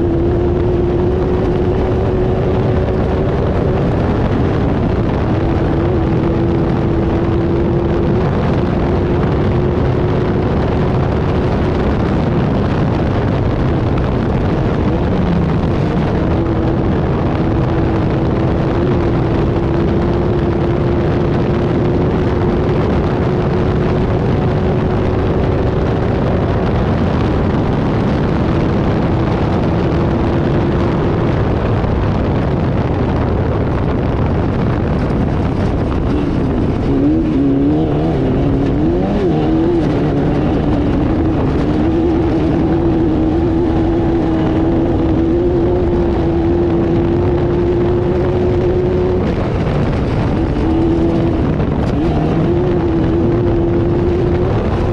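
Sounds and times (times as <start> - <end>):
race car engine running hard: 0.0 - 54.9
rushing wind and terrain noise: 0.0 - 54.9.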